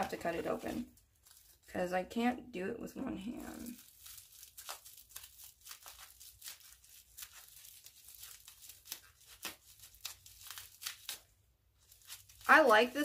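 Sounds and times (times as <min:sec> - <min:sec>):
wrapping crinkling and tearing: 0:00.0 - 0:01.9, 0:03.0 - 0:13.0.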